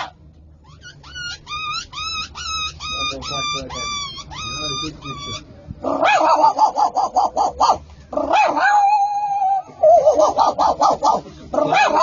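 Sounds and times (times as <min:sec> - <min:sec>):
dog yelping: 0:00.0 - 0:12.0.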